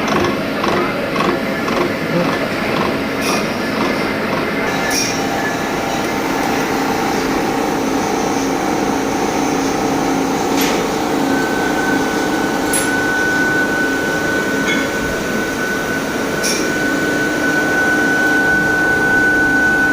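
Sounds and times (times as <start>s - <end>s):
milling machine drone: 0.0s - 19.9s
steady high whine: 0.0s - 19.9s.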